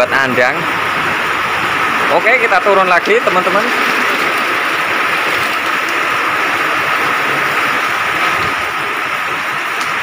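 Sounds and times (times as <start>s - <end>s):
rain falling: 0.7s - 10.0s.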